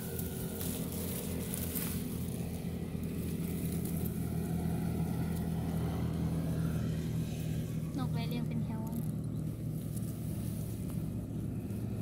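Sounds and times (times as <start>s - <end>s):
motor droning steadily: 0.0s - 12.0s.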